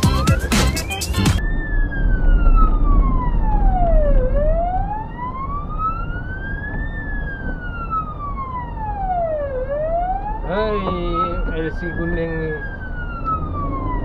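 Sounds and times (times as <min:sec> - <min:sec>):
fire engine siren wailing: 0:00.0 - 0:14.0
low engine rumble: 0:00.0 - 0:14.0
road noise: 0:00.0 - 0:14.0.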